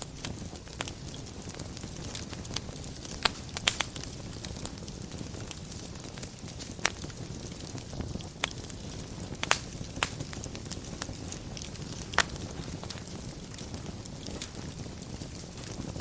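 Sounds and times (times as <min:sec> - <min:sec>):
fire flames with crackling: 0:00.0 - 0:16.0
sharp pops from burning logs: 0:00.0 - 0:16.0.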